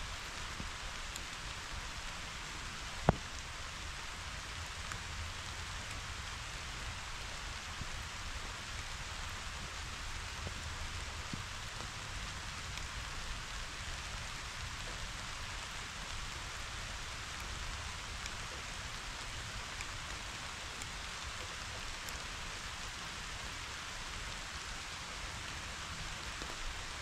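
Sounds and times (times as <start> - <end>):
rain falling on grass: 0.0 - 27.0
raindrop ticks: 0.2 - 27.0.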